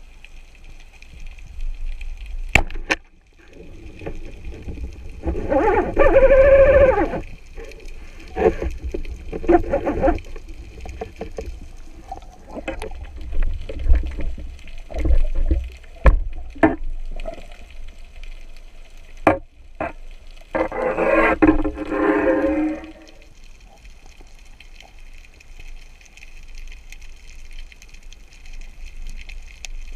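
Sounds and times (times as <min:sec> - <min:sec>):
underwater gurgling: 0:00.0 - 0:29.9.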